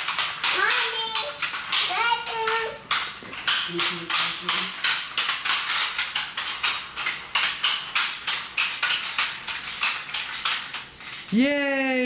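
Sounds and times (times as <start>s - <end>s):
roller skates on hard floor: 0.0s - 12.0s.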